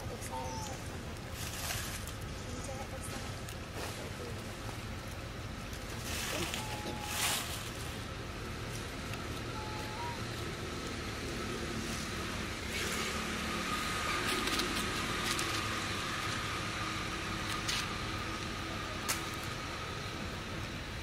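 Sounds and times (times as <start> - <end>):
outdoor background noise: 0.0 - 21.0
thin steady whine: 0.0 - 21.0.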